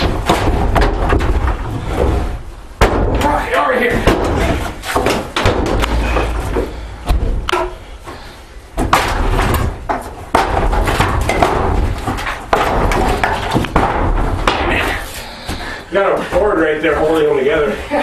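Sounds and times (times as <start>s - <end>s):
heavy wooden bangs: 0.0s - 17.0s.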